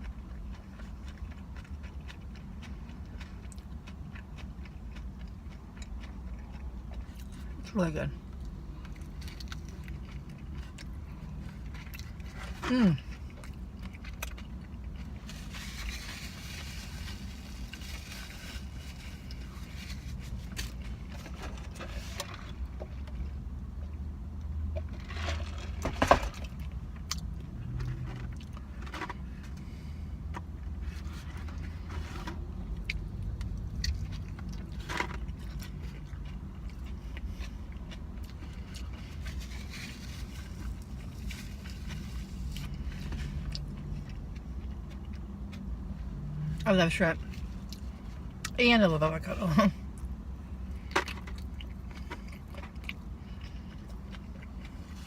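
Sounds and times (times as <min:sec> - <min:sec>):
person chewing food: 0:00.0 - 0:07.7, 0:08.3 - 0:24.9, 0:26.5 - 0:46.0, 0:49.9 - 0:55.0
steady low hum: 0:00.0 - 0:55.0.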